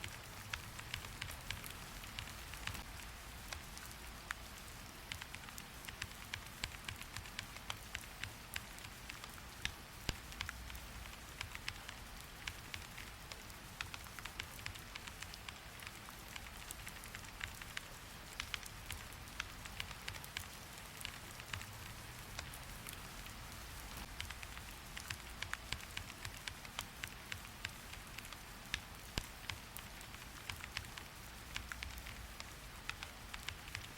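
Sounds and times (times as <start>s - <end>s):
sharp irregular clicks: 0.0s - 33.9s
steady rain hiss: 0.0s - 33.9s.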